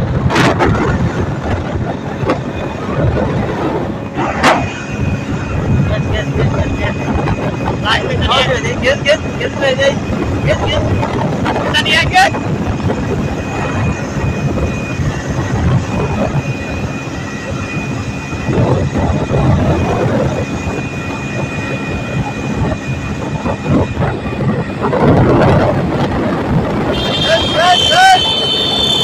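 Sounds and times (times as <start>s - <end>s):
motorcycle engine: 0.0s - 29.0s
road noise: 0.0s - 29.0s
wind buffeting microphone: 0.0s - 29.0s.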